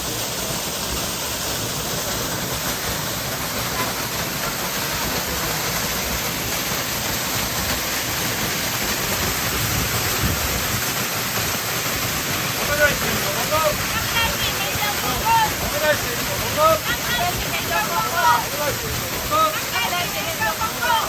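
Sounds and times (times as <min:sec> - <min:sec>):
waterfall rushing onto person: 0:00.0 - 0:21.0.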